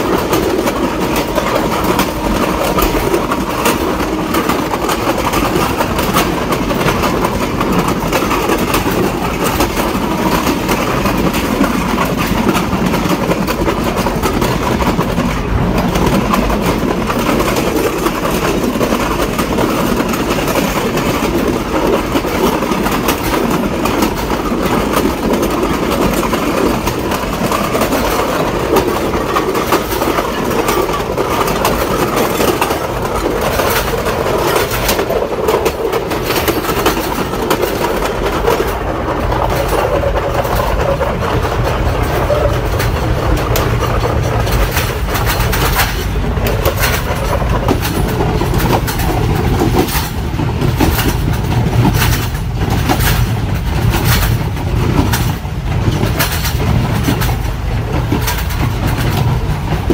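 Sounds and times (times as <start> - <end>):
train wheels clicking on rails: 0.0 - 59.9.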